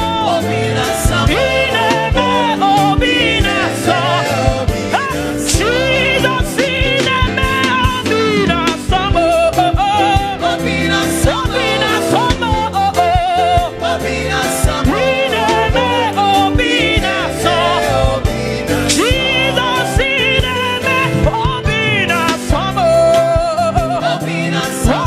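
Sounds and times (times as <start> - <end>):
band playing gospel music: 0.0 - 25.0.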